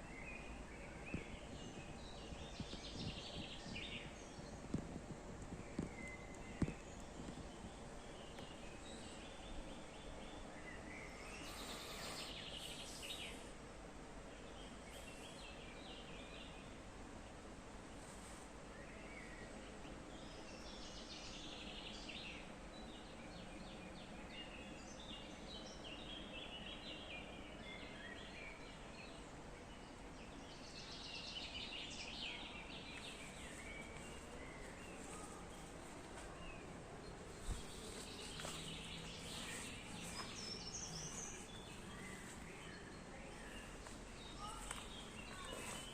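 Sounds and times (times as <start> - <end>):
faint background hiss: 0.0 - 45.9
small birds chirping: 0.0 - 45.9.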